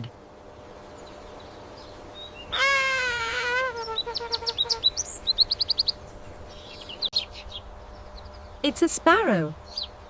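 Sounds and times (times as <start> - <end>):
bird calling and chirping: 1.0 - 10.0.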